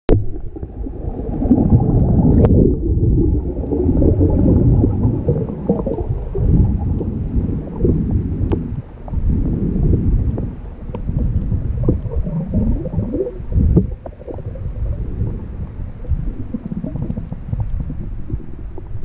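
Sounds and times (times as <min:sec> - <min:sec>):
muffled underwater water rumble: 0:00.1 - 0:19.0.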